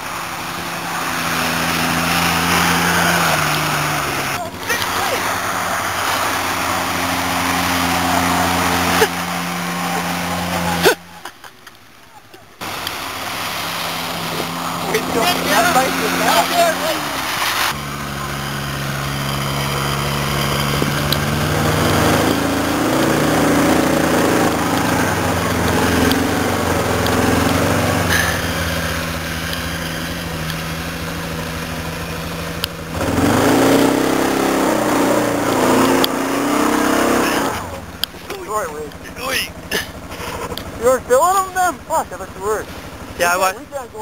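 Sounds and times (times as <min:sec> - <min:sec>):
vehicle engine pulling under load: 0:00.0 - 0:44.0.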